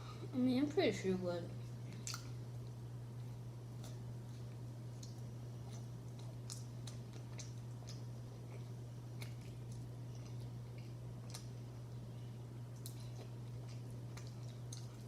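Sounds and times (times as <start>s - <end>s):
steady low hum: 0.0s - 15.0s
person chewing with wet clicks: 1.6s - 15.0s.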